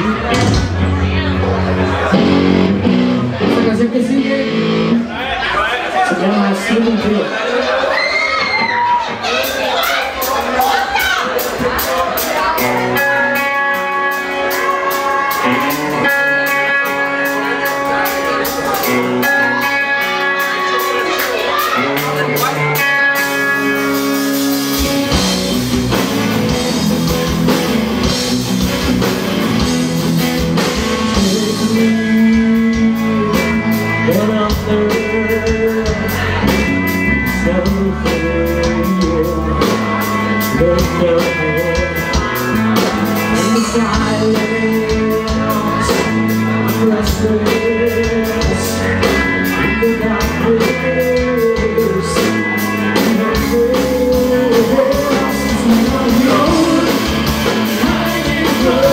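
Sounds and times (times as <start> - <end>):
steady drum beat: 0.0 - 4.0, 8.5 - 58.9
live rock band playing: 0.0 - 58.9.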